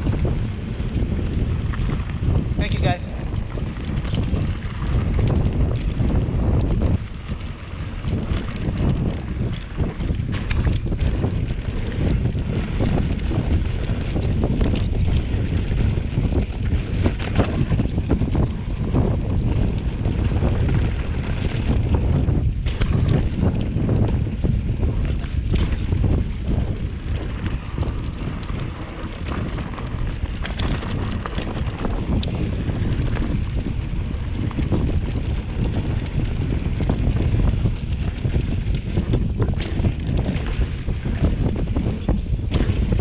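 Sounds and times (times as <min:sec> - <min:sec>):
bike knocks and rattles: 0:00.0 - 0:43.0
wind buffeting microphone: 0:00.0 - 0:43.0.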